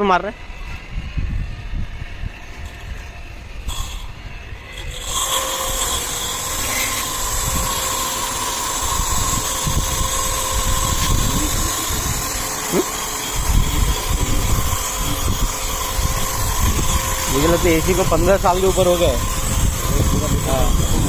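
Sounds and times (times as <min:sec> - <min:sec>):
pressure washer pump running: 0:00.0 - 0:21.0.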